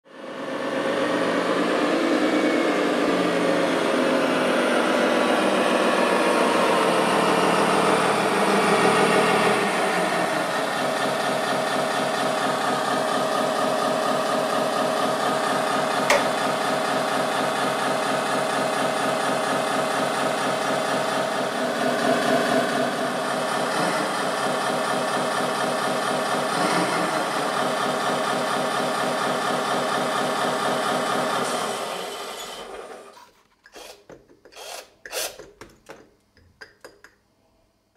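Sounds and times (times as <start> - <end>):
simulated diesel engine running: 0.1 - 33.2.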